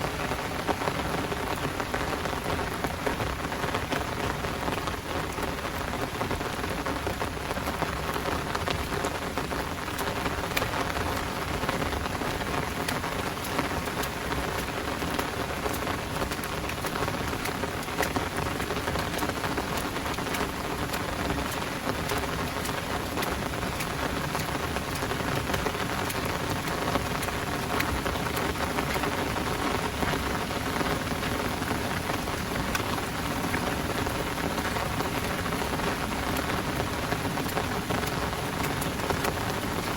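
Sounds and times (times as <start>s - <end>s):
heavy rain downpour: 0.0s - 39.9s
sharp raindrop ticks: 0.0s - 39.9s.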